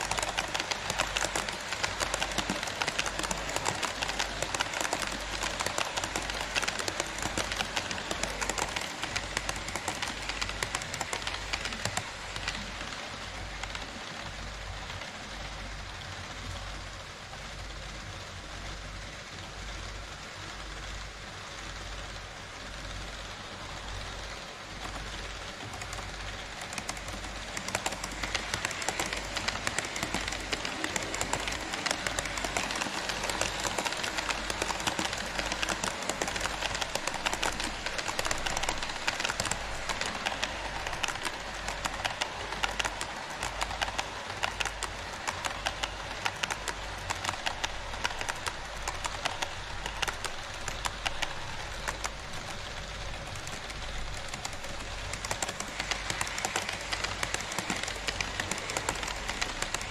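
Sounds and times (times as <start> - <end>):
model train wheels clattering: 0.0 - 59.9.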